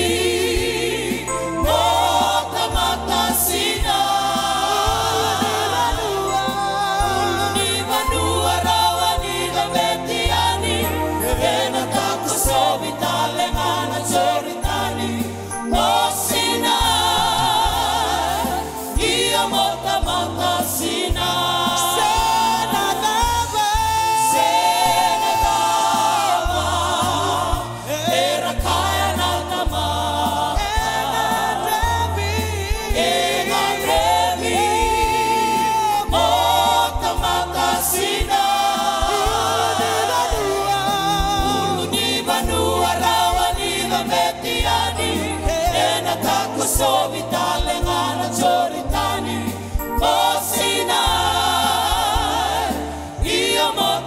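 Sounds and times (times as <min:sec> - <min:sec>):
band with keyboard bass and drums: 0:00.0 - 0:54.0
group singing gospel in harmony: 0:00.0 - 0:54.0.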